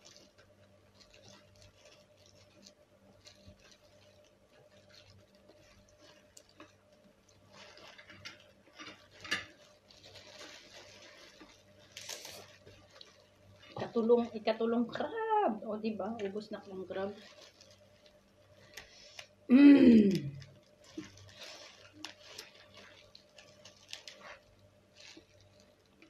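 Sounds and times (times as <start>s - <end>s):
soft crinkling of gloves: 0.0s - 26.0s.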